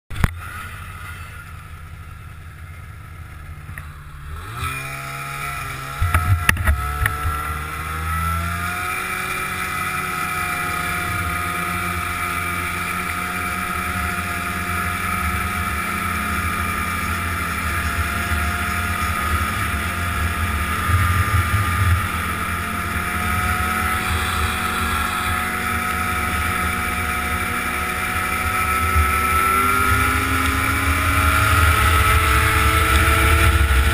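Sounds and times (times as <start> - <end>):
snowmobile engine revving: 0.2 - 33.9.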